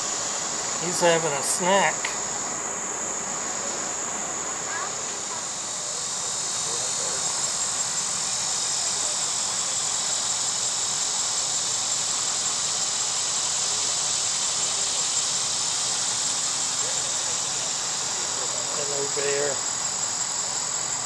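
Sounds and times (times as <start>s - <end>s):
insects singing: 0.0s - 21.0s.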